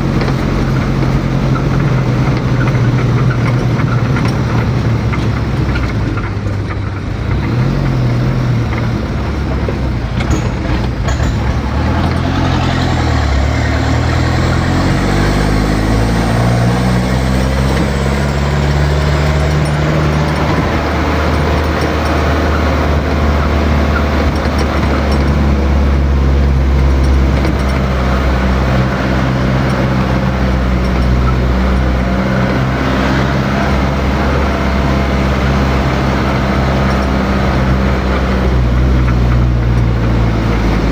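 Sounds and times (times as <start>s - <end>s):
vehicle engine accelerating: 0.0s - 40.9s.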